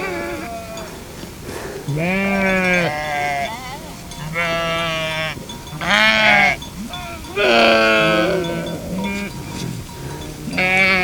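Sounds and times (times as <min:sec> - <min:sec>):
sheep bleating: 0:00.0 - 0:01.3, 0:01.9 - 0:11.0.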